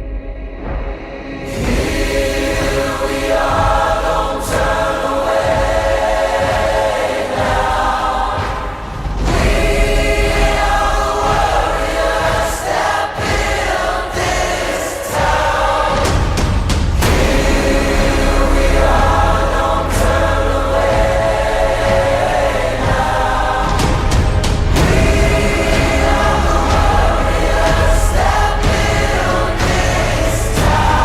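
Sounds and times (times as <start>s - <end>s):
choir singing long held notes: 0.0s - 31.0s.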